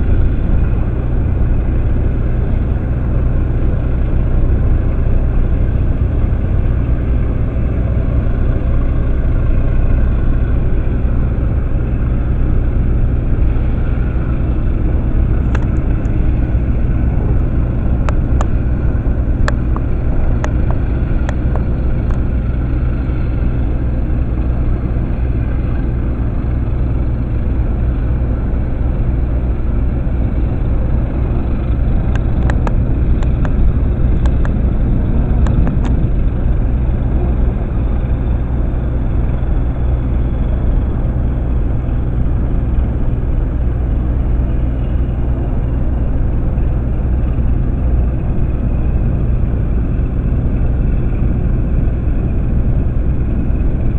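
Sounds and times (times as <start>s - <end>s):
low engine drone: 0.0s - 53.9s.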